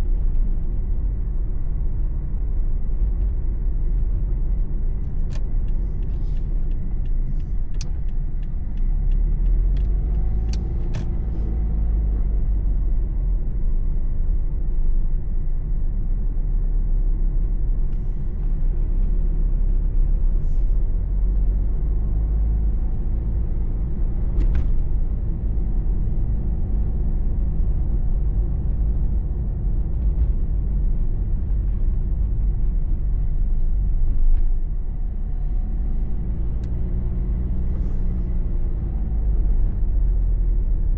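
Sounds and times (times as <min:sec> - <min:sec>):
car engine rumble: 0:00.0 - 0:40.9
tyre road noise: 0:00.0 - 0:40.9.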